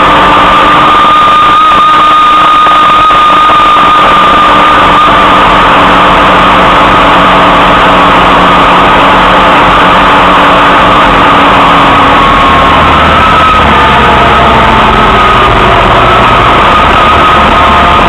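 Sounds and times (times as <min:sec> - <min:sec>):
rush of wind and road noise: 0:00.0 - 0:18.0
vehicle engine running: 0:00.0 - 0:18.0.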